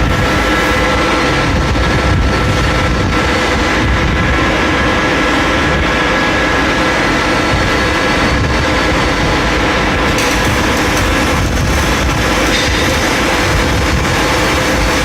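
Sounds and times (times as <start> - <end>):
machine running with whining tones: 0.0 - 15.0.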